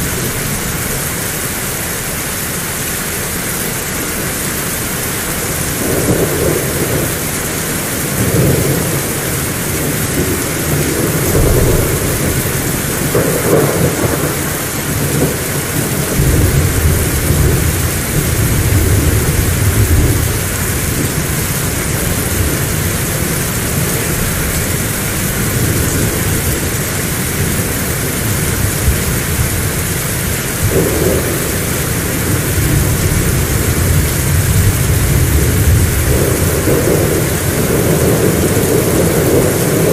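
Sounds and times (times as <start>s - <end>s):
heavy rain falling: 0.0s - 39.9s
thunder rolling: 5.3s - 39.9s.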